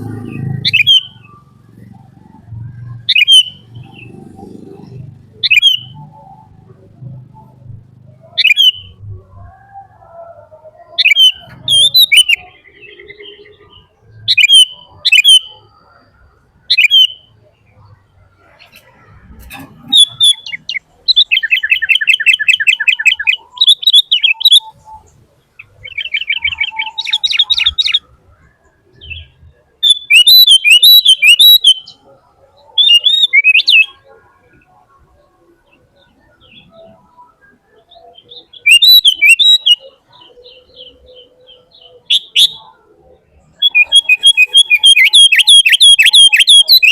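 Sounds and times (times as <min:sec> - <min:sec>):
bird trills: 0:00.0 - 0:06.6, 0:08.2 - 0:09.0, 0:10.9 - 0:16.0, 0:18.4 - 0:28.1, 0:29.0 - 0:34.1, 0:36.0 - 0:42.8, 0:43.6 - 0:46.9
bird chirping and squawking: 0:00.0 - 0:28.2, 0:28.9 - 0:34.0, 0:38.0 - 0:46.9.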